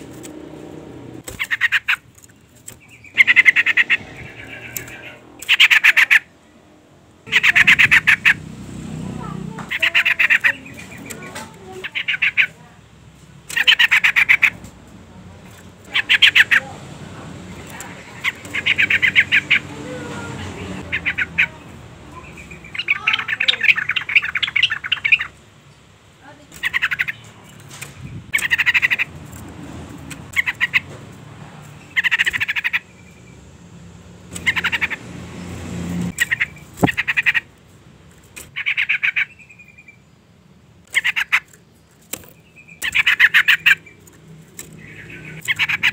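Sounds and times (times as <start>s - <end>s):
bird rapid chattering call: 1.2s - 6.5s, 7.2s - 14.7s, 15.3s - 25.4s, 26.4s - 33.4s, 34.3s - 37.6s, 38.3s - 40.0s, 40.8s - 45.9s.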